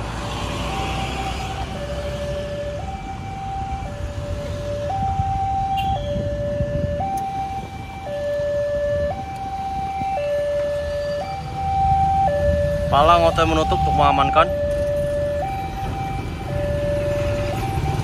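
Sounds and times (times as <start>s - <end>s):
road traffic rumble: 0.0s - 18.0s
two-tone warning siren: 0.2s - 18.0s.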